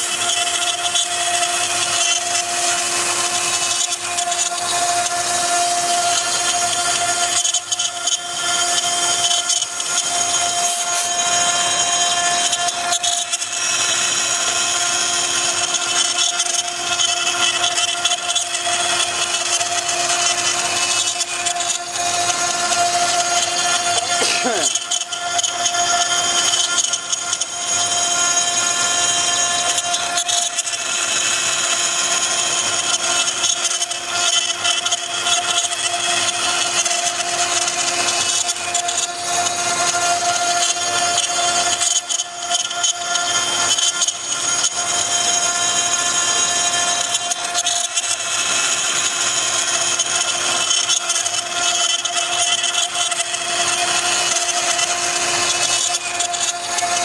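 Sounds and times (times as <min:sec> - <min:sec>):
router spindle whining cutting wood: 0:00.0 - 0:57.0.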